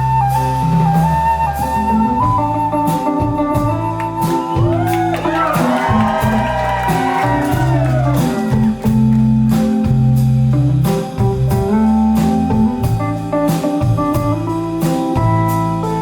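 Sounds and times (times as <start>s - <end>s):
indie pop band playing live: 0.0s - 16.0s.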